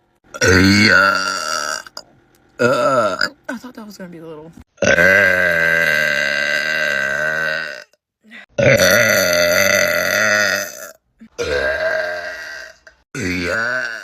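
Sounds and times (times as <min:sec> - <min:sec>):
person burping: 0:00.3 - 0:03.4, 0:04.8 - 0:14.0.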